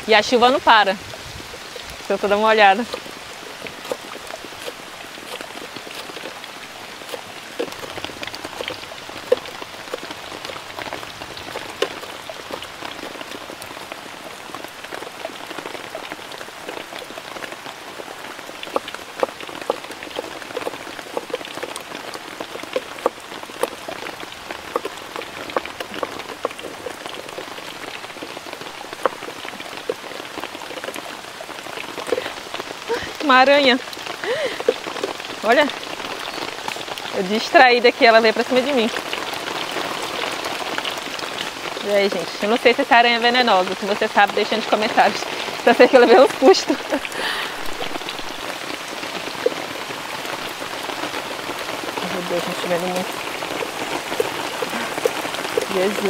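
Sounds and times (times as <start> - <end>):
heavy rain falling: 0.0 - 56.0
sharp raindrops striking close: 0.0 - 56.0.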